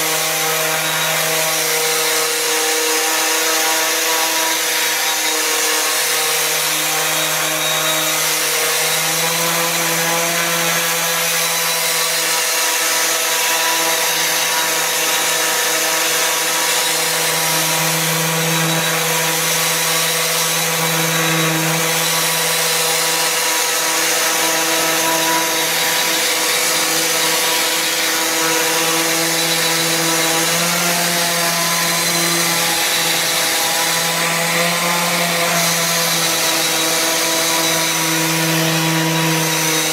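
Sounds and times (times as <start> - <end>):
orbital sander sanding wood: 0.0 - 39.9.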